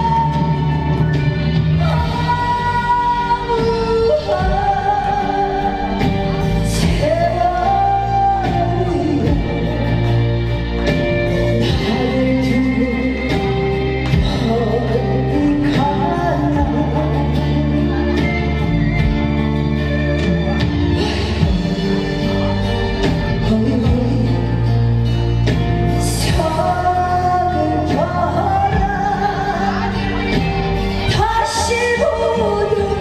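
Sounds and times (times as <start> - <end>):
amplified backing music: 0.0 - 33.0
woman singing through a microphone: 0.0 - 33.0.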